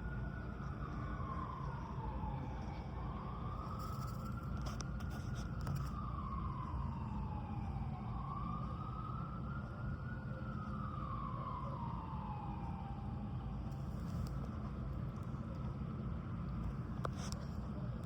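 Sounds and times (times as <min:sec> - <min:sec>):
emergency siren wailing: 0:00.0 - 0:15.6.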